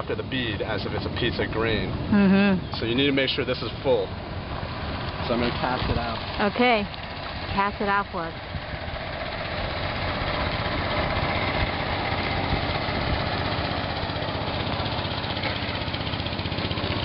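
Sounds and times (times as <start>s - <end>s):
boat motor running: 0.0s - 17.0s.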